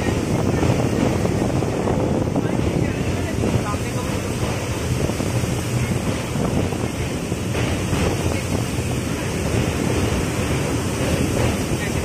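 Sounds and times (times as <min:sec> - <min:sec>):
moving train rumble: 0:00.0 - 0:12.0
wind buffeting microphone: 0:00.0 - 0:12.0.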